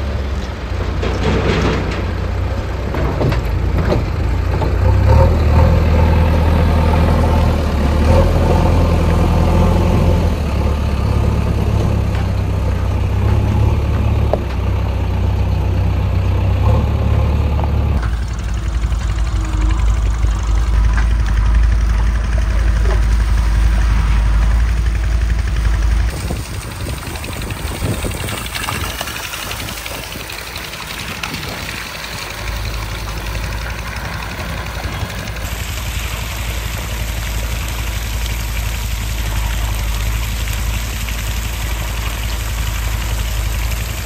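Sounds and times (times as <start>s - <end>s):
backhoe loader diesel engine: 0.0s - 44.0s
tractor engines running: 0.0s - 44.0s.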